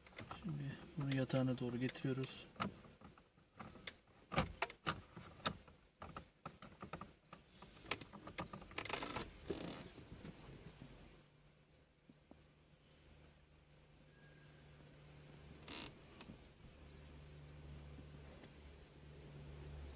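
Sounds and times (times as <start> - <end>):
rustling: 0.0 - 11.3, 14.0 - 19.9.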